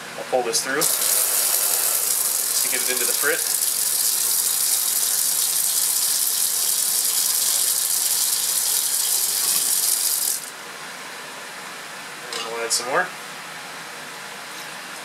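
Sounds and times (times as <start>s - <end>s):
vacuum filtration rattling hiss: 0.0s - 15.0s.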